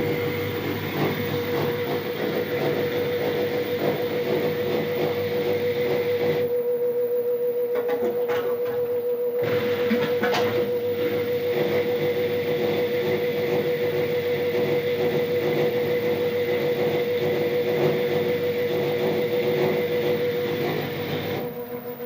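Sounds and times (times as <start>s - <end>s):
washing machine whine: 0.0s - 22.0s.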